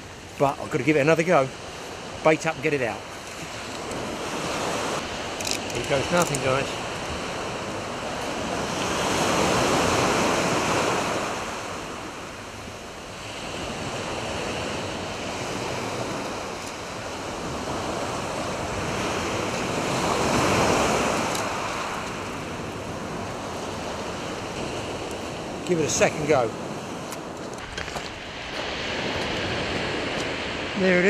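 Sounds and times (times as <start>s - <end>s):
surf breaking on beach: 0.6s - 12.2s, 13.1s - 31.0s.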